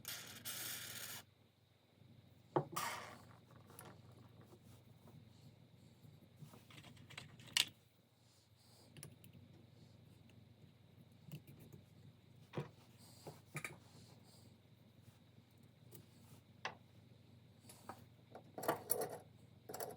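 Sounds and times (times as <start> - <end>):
low steady hum: 1.0 - 19.9.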